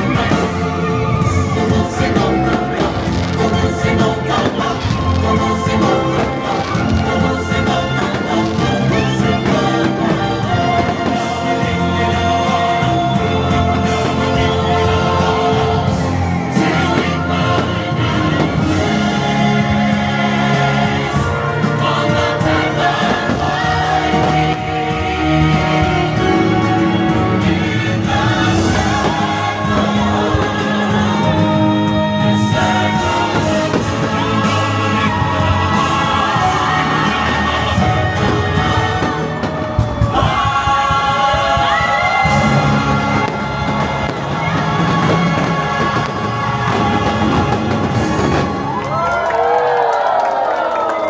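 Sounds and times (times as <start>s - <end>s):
choir singing: 0.0s - 51.0s
orchestral music: 0.0s - 51.0s.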